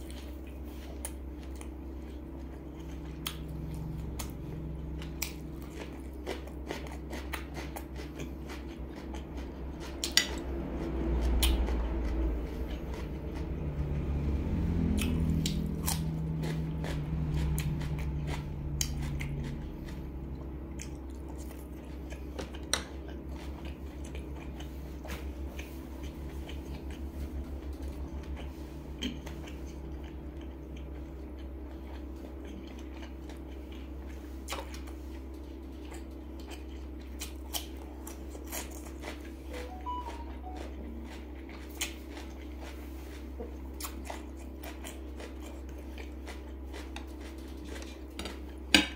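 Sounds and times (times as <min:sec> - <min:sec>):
crunching cucumber: 0:00.0 - 0:13.7, 0:14.7 - 0:27.1, 0:29.0 - 0:48.9
low steady hum: 0:00.0 - 0:48.9.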